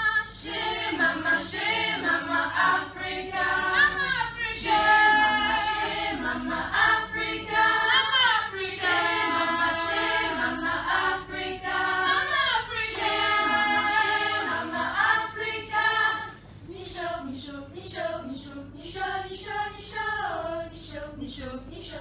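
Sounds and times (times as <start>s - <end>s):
youth choir singing a cappella: 0.0s - 22.0s.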